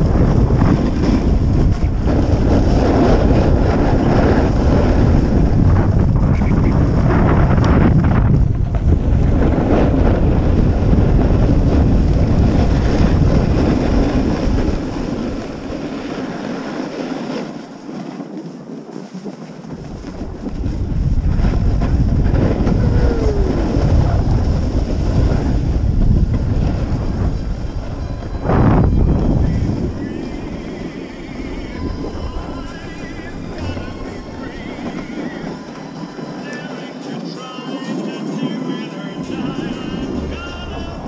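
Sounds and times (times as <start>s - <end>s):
skis scraping over snow: 0.0s - 41.0s
wind buffeting microphone: 0.0s - 41.0s.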